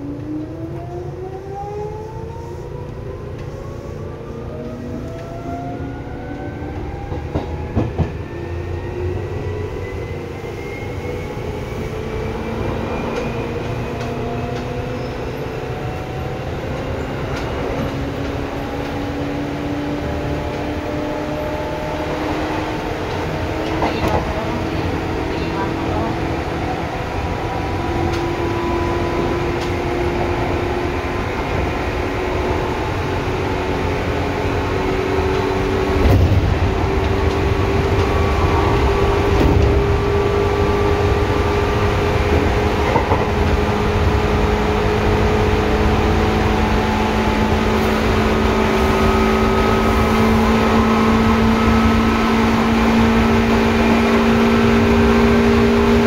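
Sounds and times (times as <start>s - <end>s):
wheel and rail rumble: 0.0s - 56.0s.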